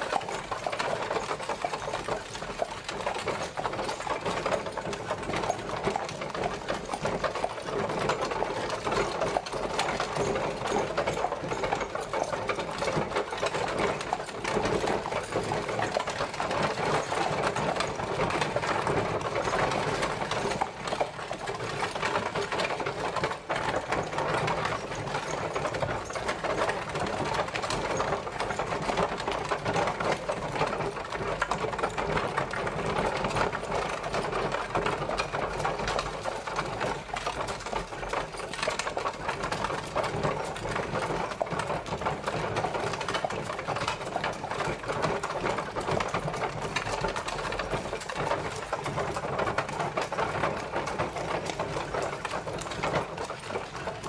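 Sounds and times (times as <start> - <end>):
carriage wheels rattling: 0.0 - 54.0.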